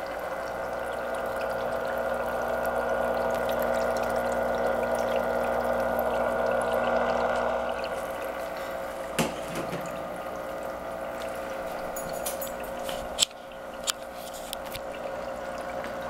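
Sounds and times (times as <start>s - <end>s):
pump hum: 0.0s - 16.0s.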